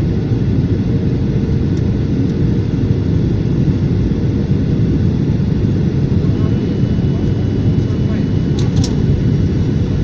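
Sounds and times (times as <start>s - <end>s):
jet cabin engine rumble: 0.0s - 10.0s.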